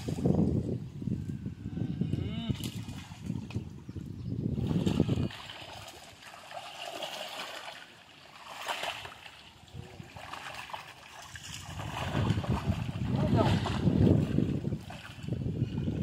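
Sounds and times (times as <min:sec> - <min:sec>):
water splashing and sloshing: 0:00.0 - 0:00.7, 0:02.5 - 0:16.0.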